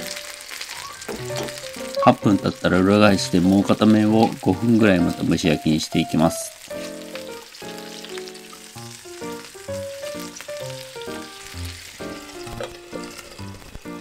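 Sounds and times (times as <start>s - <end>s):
background music melody: 0.0s - 14.0s
chicken sizzling in oil: 0.0s - 14.0s.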